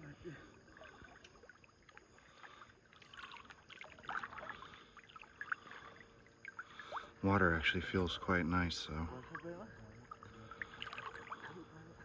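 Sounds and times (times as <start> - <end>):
water splashing from wading: 0.0 - 12.0.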